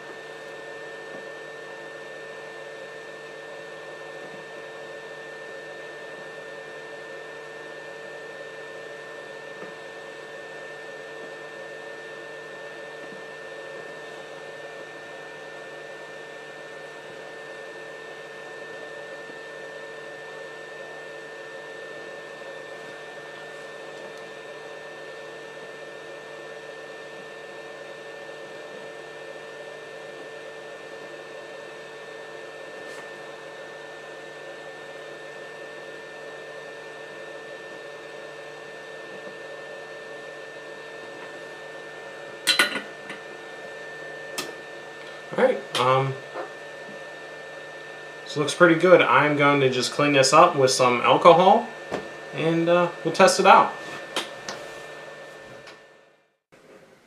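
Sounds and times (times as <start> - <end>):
electric fan whirring: 0.0 - 57.0.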